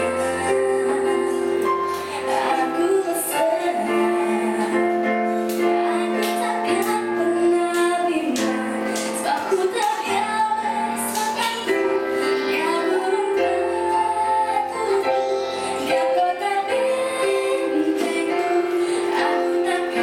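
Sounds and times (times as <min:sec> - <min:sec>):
girl singing into microphone: 0:00.0 - 0:20.0.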